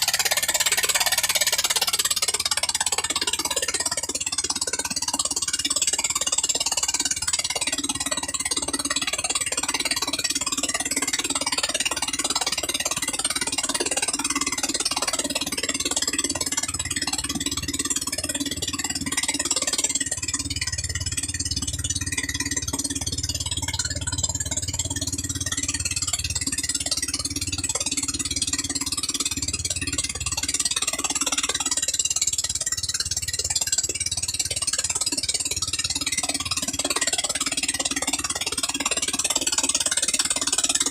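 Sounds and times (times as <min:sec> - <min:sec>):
gasoline engine running: 0:00.0 - 0:40.9.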